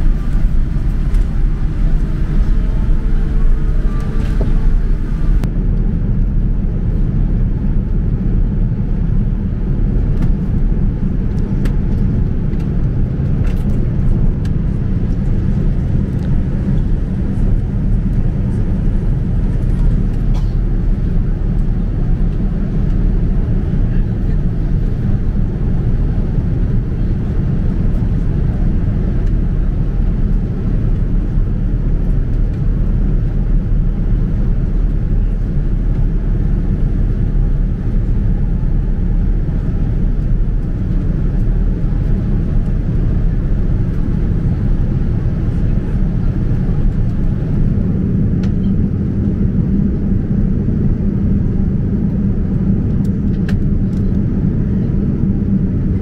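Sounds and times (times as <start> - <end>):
airliner cabin rumble in flight: 0.0 - 56.0.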